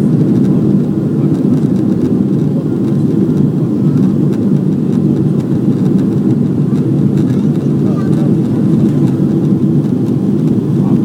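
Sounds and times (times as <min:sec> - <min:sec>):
airplane engines rumbling: 0:00.0 - 0:11.0.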